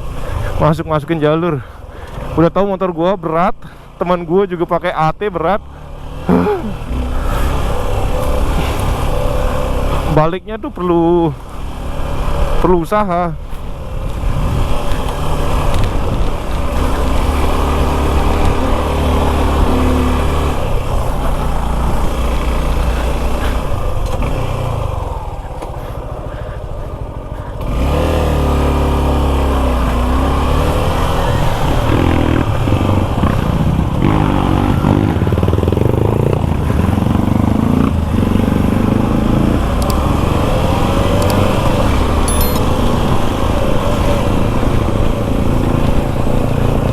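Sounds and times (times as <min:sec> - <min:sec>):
motorcycle engine running: 0:05.6 - 0:10.3, 0:11.0 - 0:46.9.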